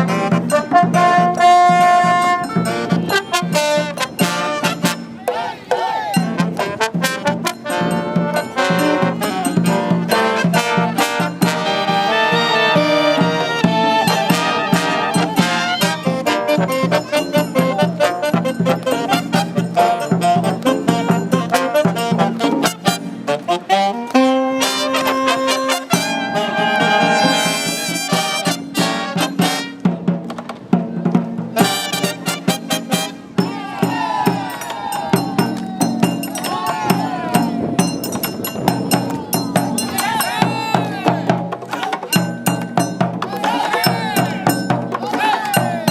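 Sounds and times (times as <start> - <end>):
steady drum beat: 0.0 - 23.0, 25.9 - 45.9
brass marching band playing: 0.0 - 45.9.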